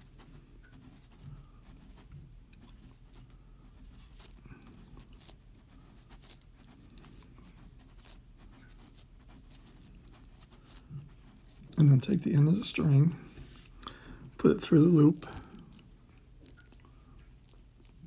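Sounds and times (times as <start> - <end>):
string wrapping around rope: 0.0 - 18.0.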